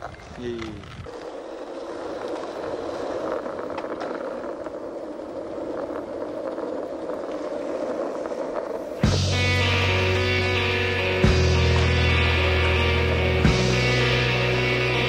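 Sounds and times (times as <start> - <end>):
skateboard wheels rolling on asphalt: 0.0 - 15.0.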